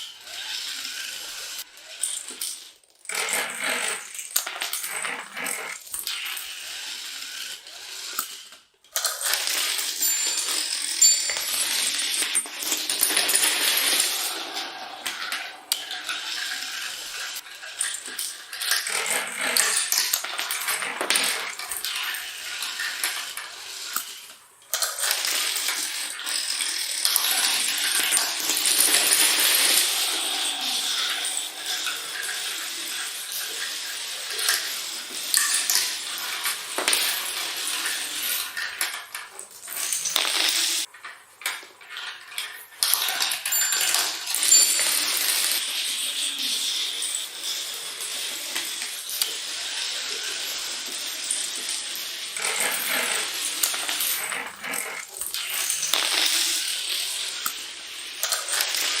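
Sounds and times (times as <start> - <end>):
domino tiles clattering: 0.0 - 59.0.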